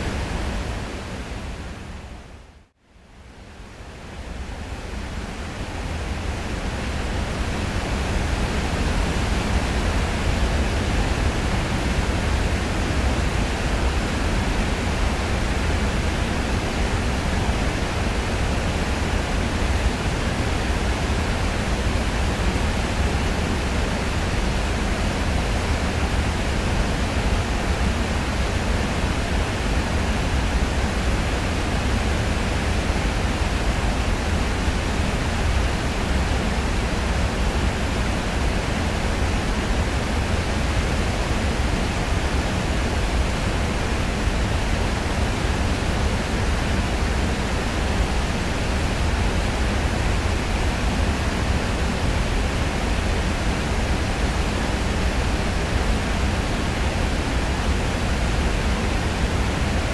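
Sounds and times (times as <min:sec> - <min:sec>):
waterfall rushing: 0:05.6 - 0:59.9.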